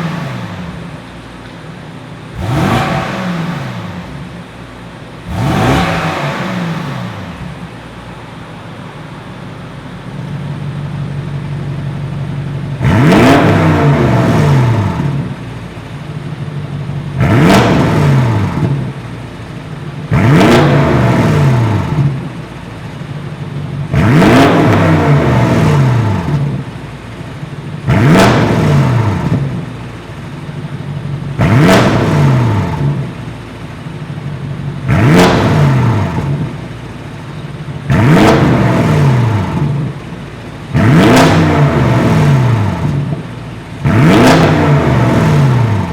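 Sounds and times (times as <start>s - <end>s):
car engine revving from idle: 0.0s - 45.9s.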